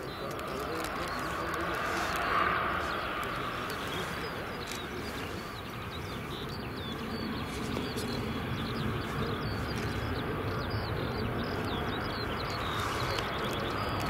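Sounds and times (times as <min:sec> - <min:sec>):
distant turboprop rumble: 0:00.0 - 0:14.0
small birds chirping: 0:00.0 - 0:14.0.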